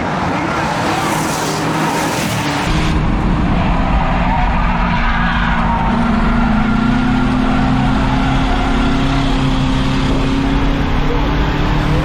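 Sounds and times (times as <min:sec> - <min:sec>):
race car engine running hard: 0:00.0 - 0:12.0.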